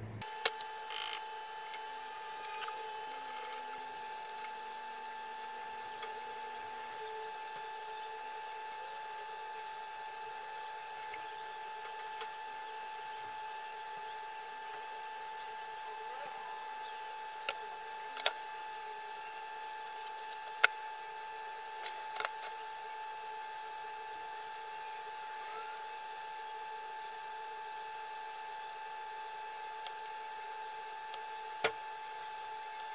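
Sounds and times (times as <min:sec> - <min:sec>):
steady background hum: 0:00.0 - 0:32.9.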